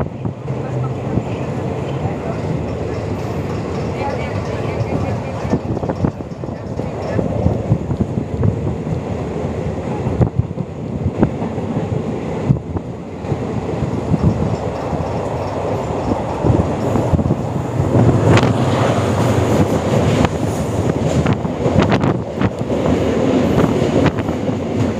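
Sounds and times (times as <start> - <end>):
diesel train passing: 0.0 - 24.9
wheels clacking on rails: 0.0 - 24.9.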